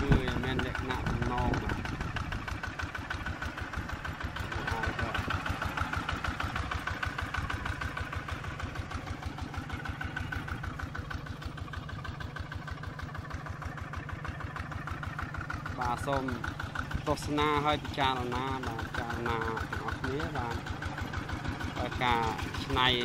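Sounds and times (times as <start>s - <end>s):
diesel tractor engine chugging: 0.0s - 23.0s.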